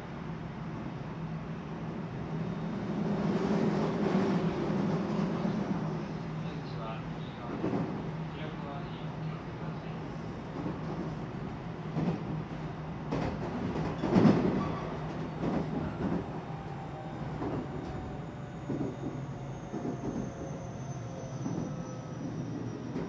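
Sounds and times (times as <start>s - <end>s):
train rumble and hum: 0.0s - 23.0s.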